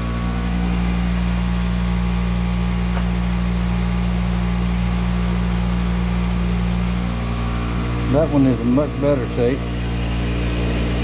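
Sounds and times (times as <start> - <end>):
electric wire wheel running: 0.0 - 11.0.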